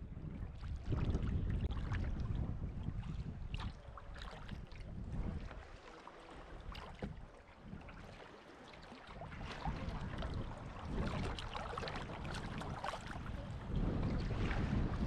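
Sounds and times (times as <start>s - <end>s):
wind buffeting microphone: 0.0s - 5.8s, 6.4s - 8.2s, 9.0s - 15.0s
paddle strokes splashing in water: 0.4s - 15.0s
small splashes around hull: 0.5s - 15.0s.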